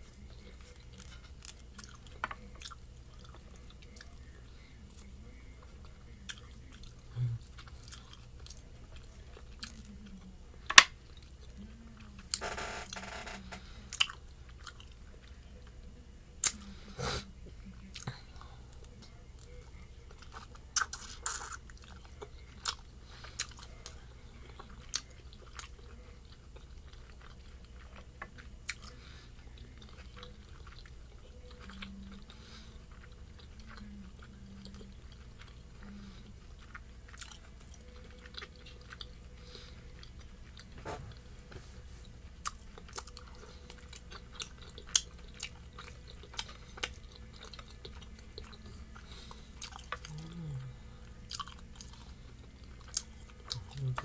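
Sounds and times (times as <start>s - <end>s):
close chewing of dumplings: 0.0s - 54.0s.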